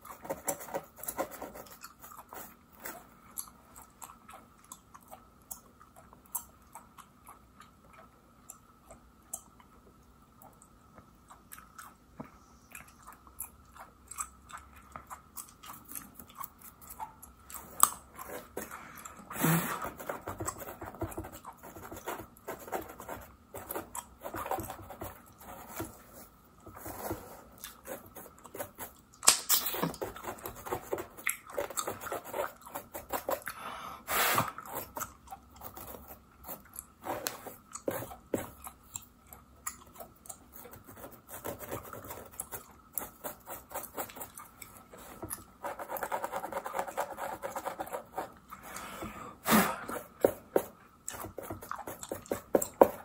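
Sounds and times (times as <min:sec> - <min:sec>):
gum chewing with wet smacking: 0:00.0 - 0:26.7, 0:27.4 - 0:33.6, 0:34.5 - 0:47.0, 0:49.8 - 0:53.0.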